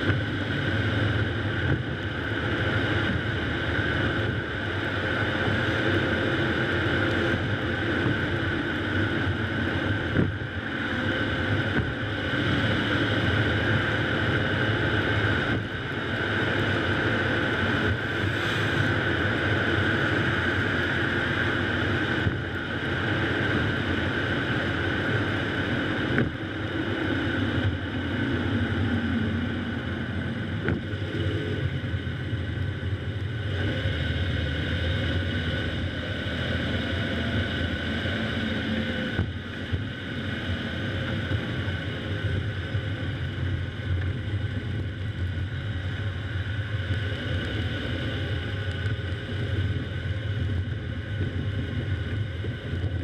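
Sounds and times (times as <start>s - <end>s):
car tyre and wind noise: 0.0s - 53.0s.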